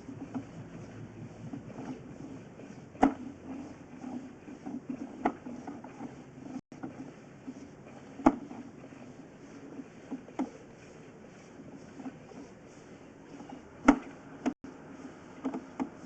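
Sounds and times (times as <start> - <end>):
rod rubbing in pipe: 0.0 - 13.8.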